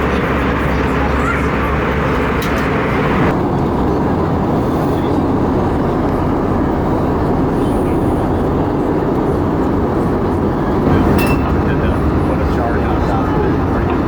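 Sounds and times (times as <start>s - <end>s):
airplane cabin engine roar: 0.0s - 14.0s.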